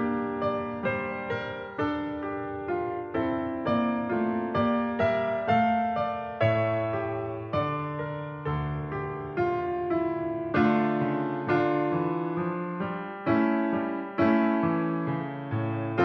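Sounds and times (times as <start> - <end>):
electric piano chords: 0.0 - 16.0.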